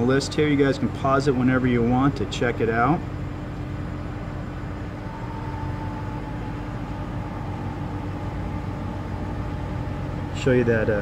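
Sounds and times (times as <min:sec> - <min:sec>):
high steady whine: 0:00.0 - 0:11.0
low mechanical hum: 0:00.0 - 0:11.0.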